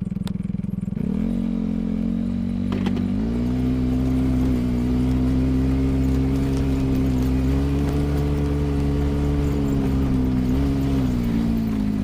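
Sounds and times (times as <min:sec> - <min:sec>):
vehicle engine idling and accelerating: 0:00.0 - 0:12.0.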